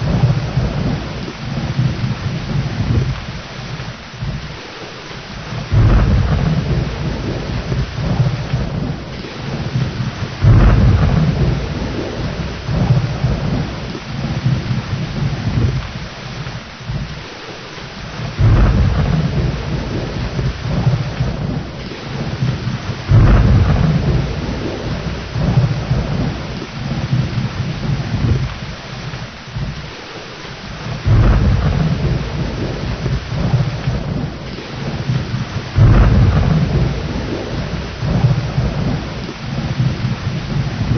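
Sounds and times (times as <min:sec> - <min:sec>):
rolling thunder: 0:00.0 - 0:04.6, 0:05.2 - 0:17.4, 0:18.0 - 0:30.0, 0:30.6 - 0:40.9
heavy rain: 0:00.0 - 0:40.9.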